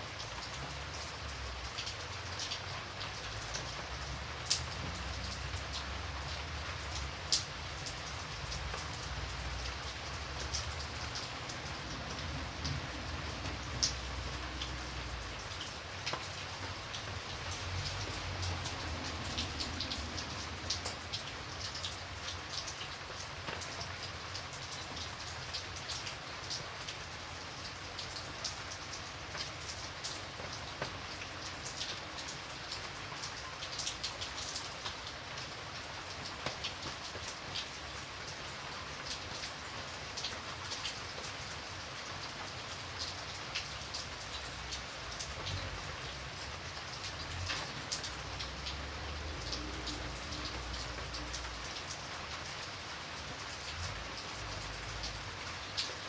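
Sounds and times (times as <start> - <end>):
rain drops ticking on hard surface: 0.0 - 56.0.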